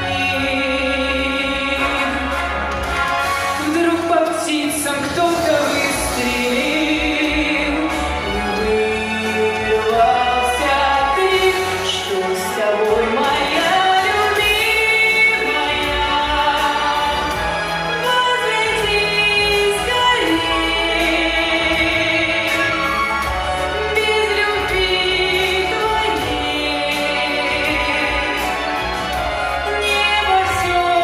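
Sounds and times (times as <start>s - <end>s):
song with singing and accompaniment: 0.0s - 31.0s.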